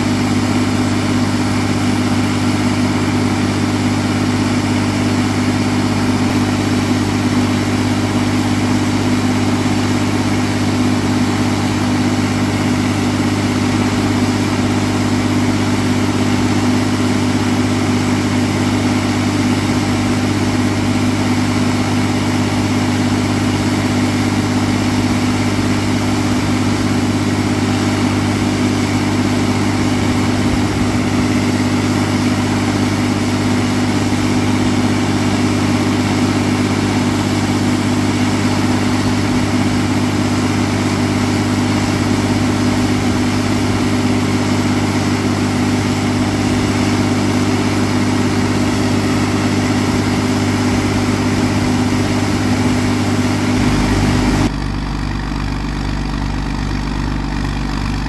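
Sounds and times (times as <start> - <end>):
air compressor engine droning: 0.0 - 58.0.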